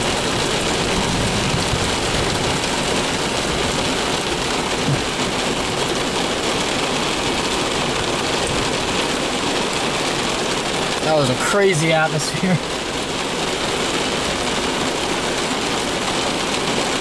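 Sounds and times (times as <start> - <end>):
heavy rain on car roof: 0.0 - 17.0.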